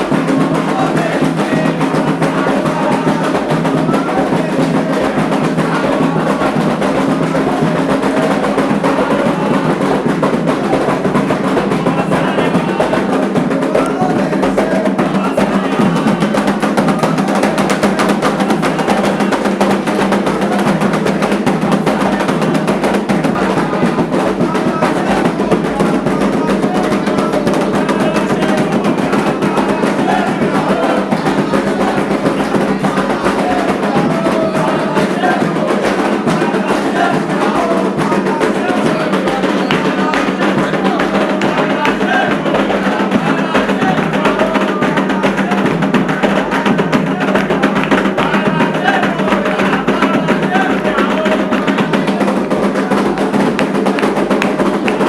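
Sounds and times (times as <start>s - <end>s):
hand drums playing: 0.0s - 55.0s
voices singing: 0.0s - 55.0s.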